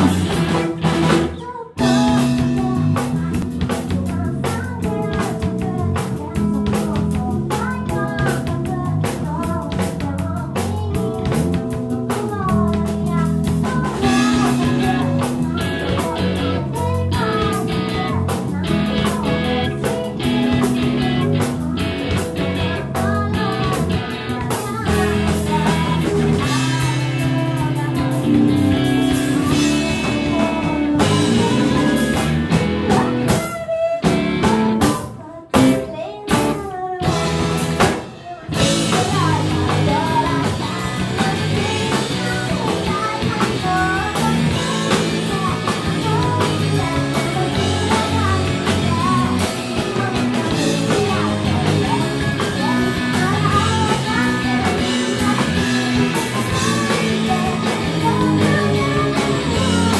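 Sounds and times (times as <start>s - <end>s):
bass guitar: 0.0s - 59.9s
drums: 0.0s - 59.9s
electric guitar: 0.0s - 59.9s
keyboard: 0.0s - 59.9s
woman singing: 1.1s - 59.9s.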